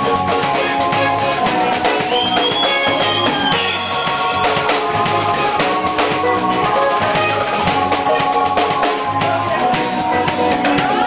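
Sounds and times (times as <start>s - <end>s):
drum kit beat: 0.0s - 11.0s
electric guitar: 0.0s - 11.0s.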